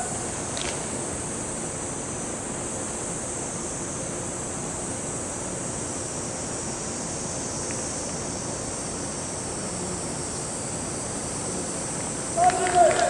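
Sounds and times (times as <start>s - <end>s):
outdoor rushing hiss: 0.0s - 13.0s.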